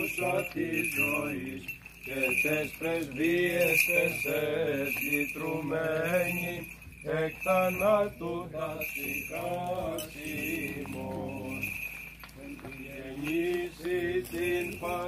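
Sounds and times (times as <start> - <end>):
person chanting a hymn: 0.0 - 15.0
steady high ringing: 0.0 - 15.0.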